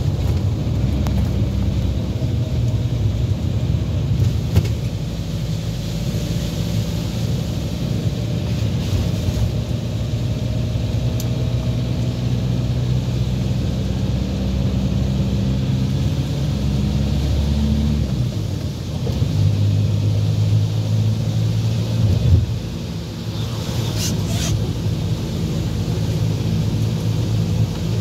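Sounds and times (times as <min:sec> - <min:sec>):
car engine running from inside: 0:00.0 - 0:28.0
tyres hissing on wet road: 0:00.0 - 0:28.0.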